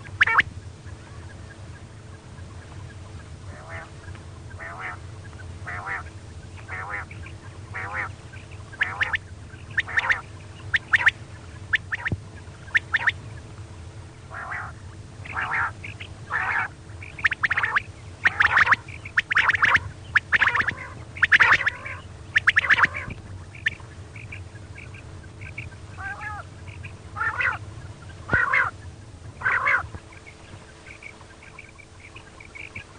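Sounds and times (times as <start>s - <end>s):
quail raspy calls: 0.0s - 13.5s, 14.2s - 32.9s
steady low hum: 0.0s - 32.9s.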